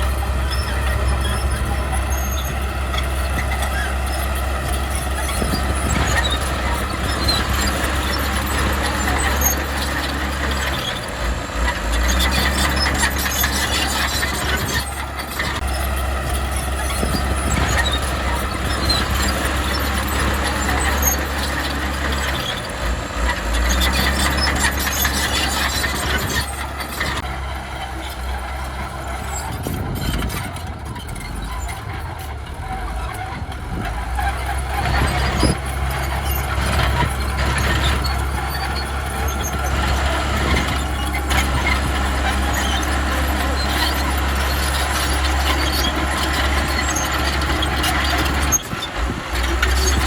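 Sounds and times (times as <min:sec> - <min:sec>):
bulldozer diesel engine running: 0:00.0 - 0:50.0
high metallic squealing: 0:00.0 - 0:50.0.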